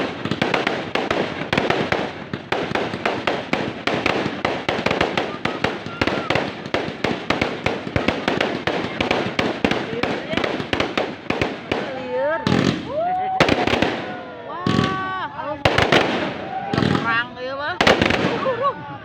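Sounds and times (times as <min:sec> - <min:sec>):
fireworks crackling and popping: 0:00.0 - 0:18.8.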